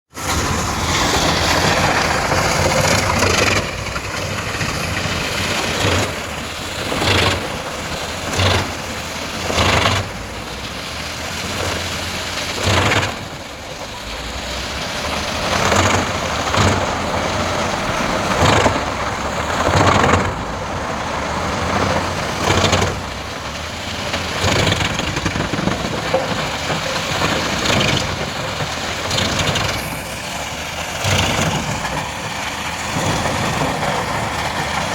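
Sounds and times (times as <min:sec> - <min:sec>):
wood chipper engine running: 0:00.1 - 0:34.9
wood crunching and grinding: 0:00.2 - 0:34.9.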